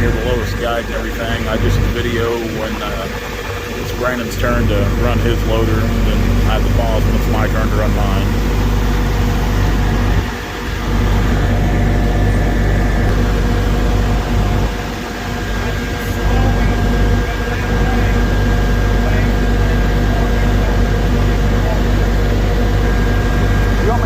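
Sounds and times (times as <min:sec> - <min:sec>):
diesel truck engine running: 0:00.0 - 0:24.0
thin steady hydraulic whine: 0:00.0 - 0:24.0.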